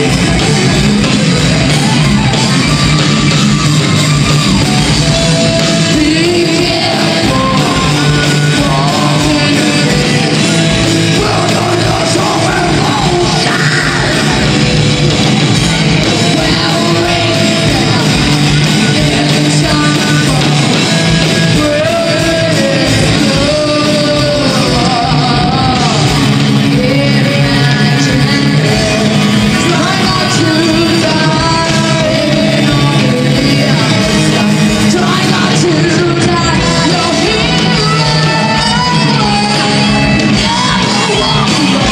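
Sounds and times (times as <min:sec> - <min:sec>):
death metal band playing: 0:00.0 - 0:41.9
woman singing: 0:05.6 - 0:14.4, 0:16.0 - 0:20.8, 0:21.4 - 0:41.9.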